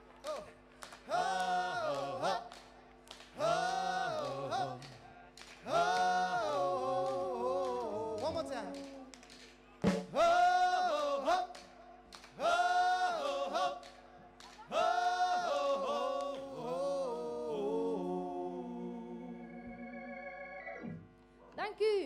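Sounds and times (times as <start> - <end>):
group singing held phrases: 0.0 - 9.2, 9.8 - 19.9.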